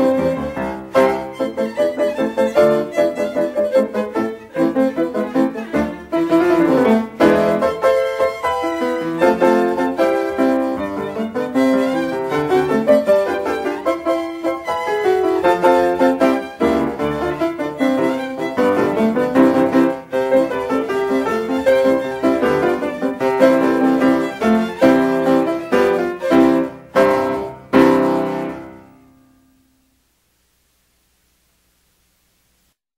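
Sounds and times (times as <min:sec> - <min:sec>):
silent-film style piano music: 0:00.0 - 0:30.1.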